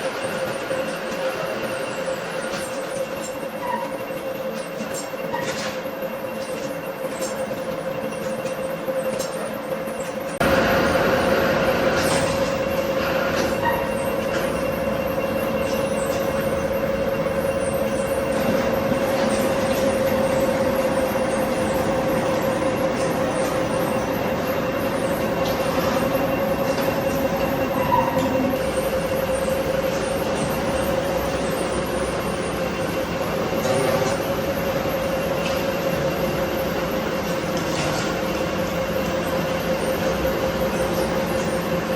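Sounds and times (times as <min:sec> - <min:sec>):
machinery whining: 0:00.0 - 0:41.9.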